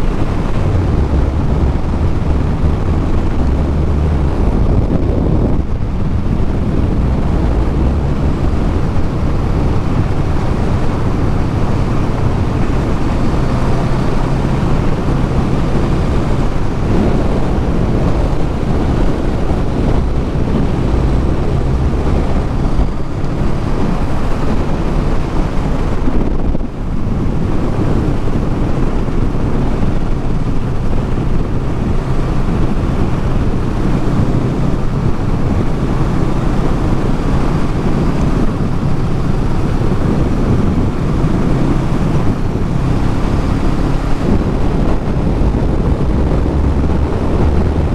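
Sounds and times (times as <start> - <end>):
motorcycle engine and exhaust: 0.0 - 47.9
wind rushing across microphone: 0.0 - 47.9.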